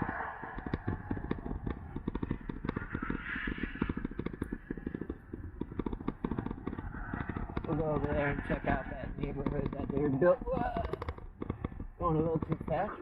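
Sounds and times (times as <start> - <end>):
electric bike rattling: 0.0 - 13.0
wind buffeting microphone: 0.0 - 13.0.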